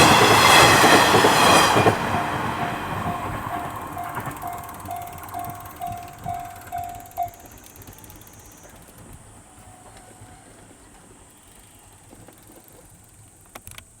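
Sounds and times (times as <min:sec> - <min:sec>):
train rumbling: 0:00.0 - 0:13.5.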